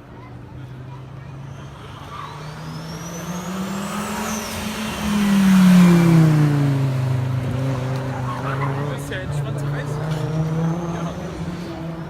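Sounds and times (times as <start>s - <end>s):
rally car engine passing: 0.2s - 12.0s.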